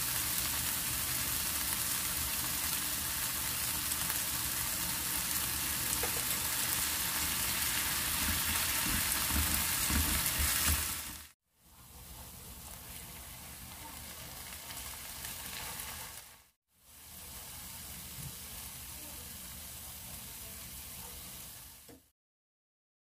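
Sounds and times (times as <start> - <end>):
sauce sizzling in a frying pan: 0.0 - 11.4, 12.0 - 22.0.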